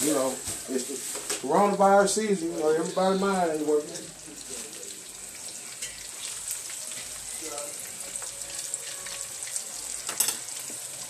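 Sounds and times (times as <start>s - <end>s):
deep-frying sizzle with pops: 0.0s - 11.0s.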